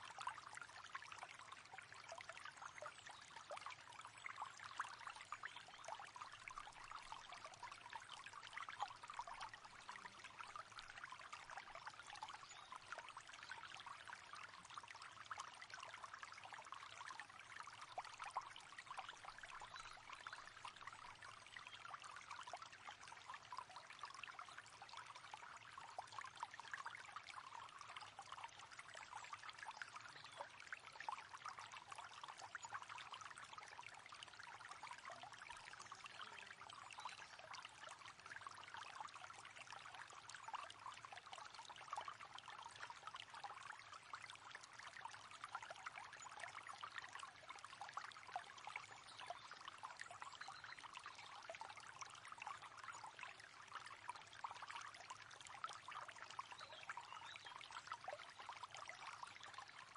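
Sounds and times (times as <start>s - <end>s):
water babbling over stones: 0.0s - 59.9s.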